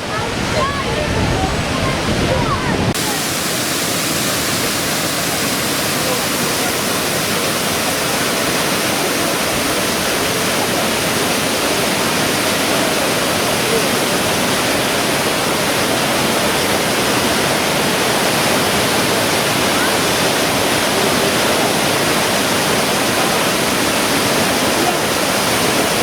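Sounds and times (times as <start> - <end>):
waterfall crashing: 0.0 - 26.0.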